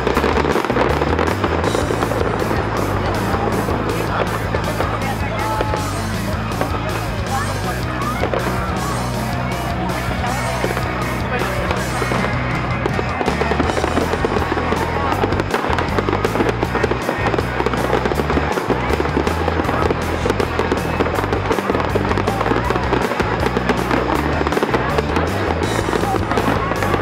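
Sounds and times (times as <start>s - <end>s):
fireworks popping and crackling: 0.0s - 27.0s
music playing: 0.0s - 27.0s.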